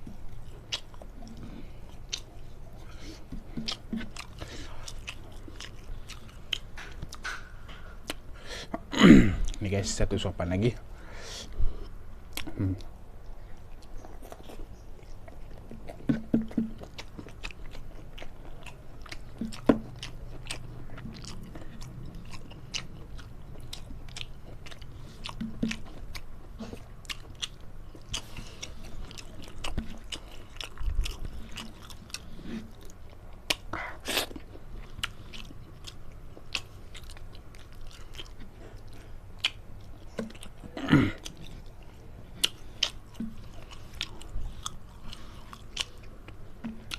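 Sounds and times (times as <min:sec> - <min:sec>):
person chewing food: 0:00.0 - 0:09.6, 0:11.4 - 0:46.9.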